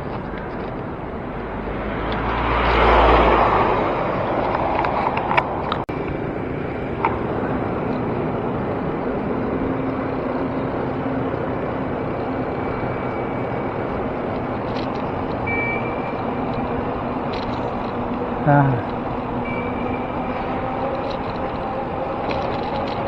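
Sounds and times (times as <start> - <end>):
city traffic: 0.0 - 23.0
wind rush: 0.0 - 23.0.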